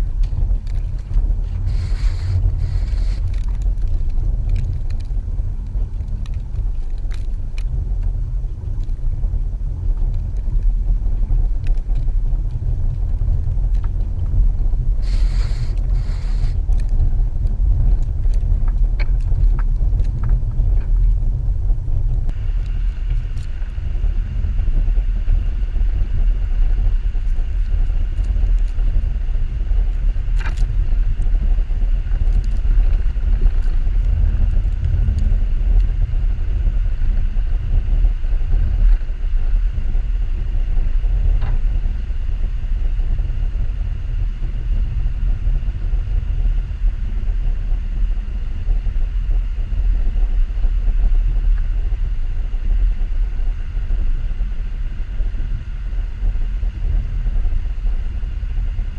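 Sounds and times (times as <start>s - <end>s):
car rumbling through snow: 0.0s - 58.9s.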